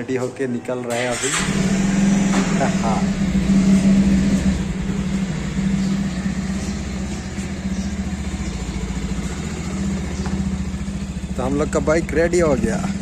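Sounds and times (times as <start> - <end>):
motorcycle engine running at low revs: 1.5 - 13.0.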